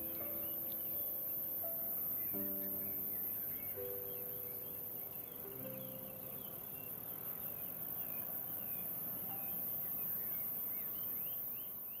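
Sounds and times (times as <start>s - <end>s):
outdoor ambient hiss: 0.0s - 12.0s
small birds chirping: 0.0s - 12.0s.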